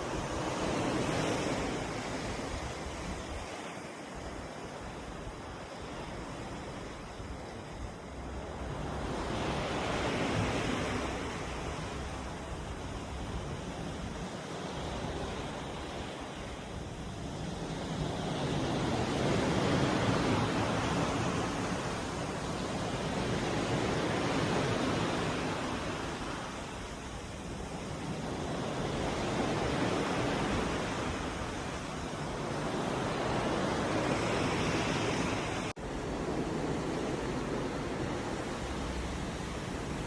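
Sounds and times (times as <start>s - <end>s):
ocean water rushing: 0.0s - 40.0s
wind: 0.0s - 40.0s.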